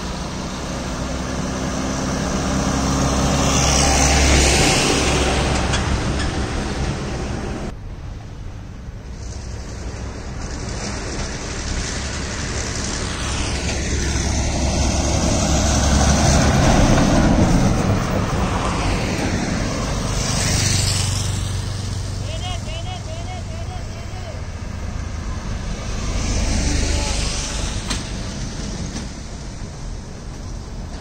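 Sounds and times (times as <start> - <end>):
highway traffic passing: 0.0 - 31.0.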